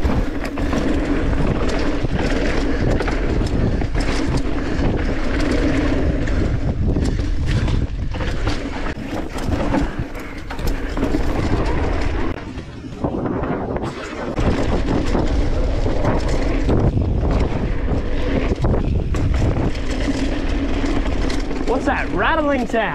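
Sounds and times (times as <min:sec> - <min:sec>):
bike rattling and knocking: 0:00.0 - 0:22.9
tyre noise on dirt: 0:00.0 - 0:22.9
wind rushing over microphone: 0:00.0 - 0:22.9.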